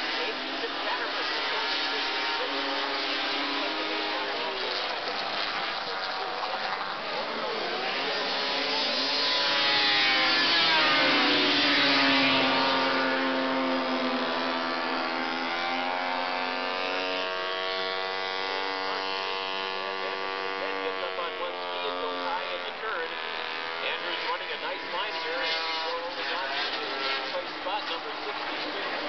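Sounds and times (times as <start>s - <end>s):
snowmobile engines racing: 0.0s - 29.0s.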